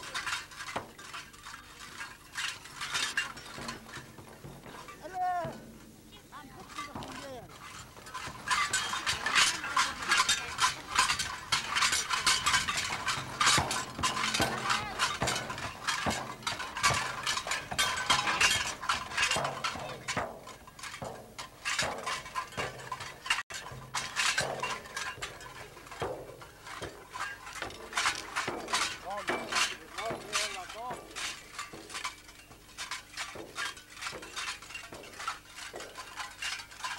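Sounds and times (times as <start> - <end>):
bright metallic jingling: 0.0 - 36.9.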